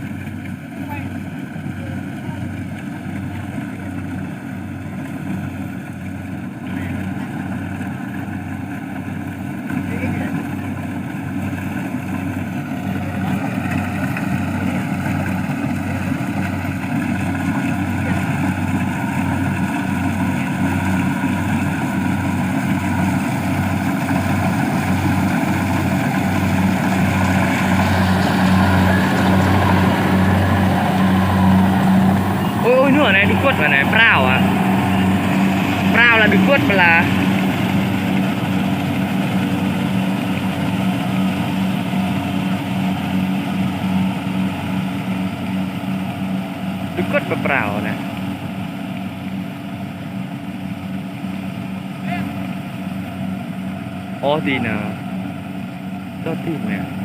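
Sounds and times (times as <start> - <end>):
small engine running steadily: 0.0 - 57.0.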